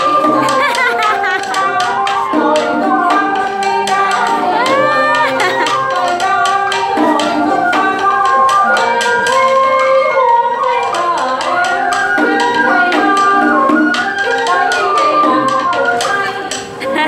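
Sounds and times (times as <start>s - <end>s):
sharp percussion strikes: 0.0s - 17.0s
sliding instrumental melody: 0.0s - 17.0s.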